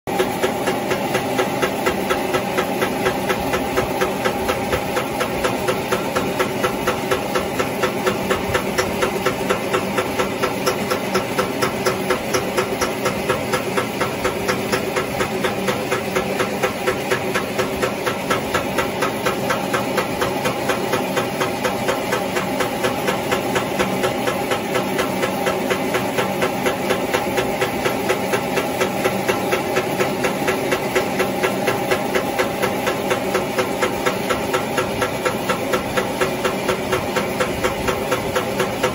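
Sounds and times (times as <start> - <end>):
small engine idling with knocking: 0.1 - 38.9.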